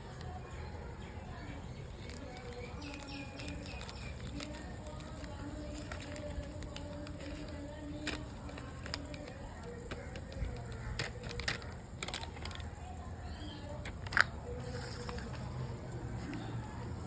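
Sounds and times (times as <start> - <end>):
containers clicking and rustling: 2.0 - 15.6.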